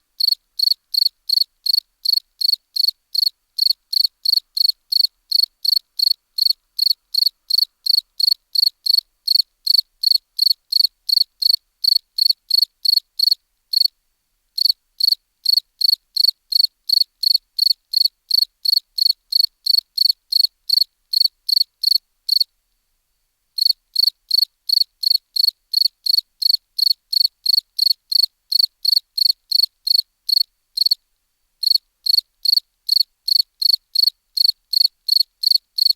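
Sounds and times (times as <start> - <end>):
cricket chirping: 0.2 - 13.9, 14.6 - 22.5, 23.6 - 31.0, 31.6 - 35.9.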